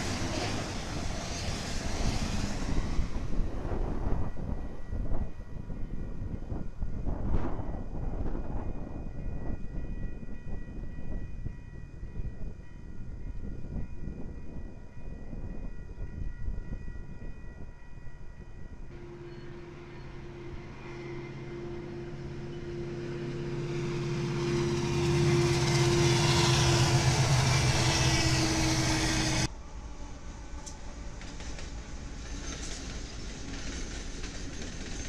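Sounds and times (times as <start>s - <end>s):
diesel locomotive engine drone: 0.0s - 12.4s, 18.0s - 35.0s
distant trains rumbling: 0.0s - 35.0s
train wheel and rail noise: 0.0s - 35.0s.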